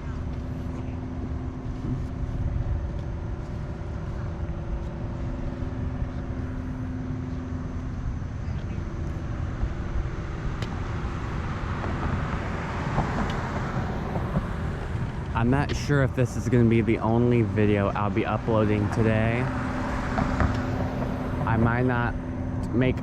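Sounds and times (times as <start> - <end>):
motor vehicle engine rumble: 0.0 - 23.0.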